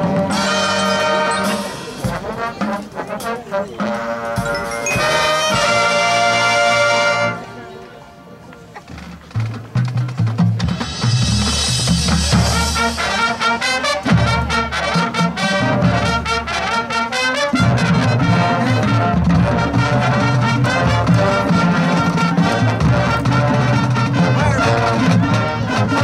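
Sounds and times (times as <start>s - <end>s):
drumline drums: 0.0s - 7.2s, 8.7s - 26.0s
marching band brass: 0.0s - 26.0s.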